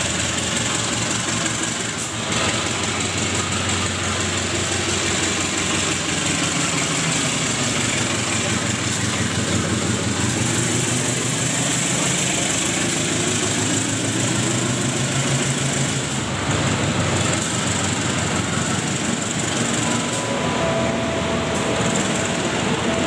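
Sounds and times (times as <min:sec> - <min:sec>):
locomotive engine running: 0:00.0 - 0:23.0
passenger coaches rolling on rails: 0:00.0 - 0:23.0.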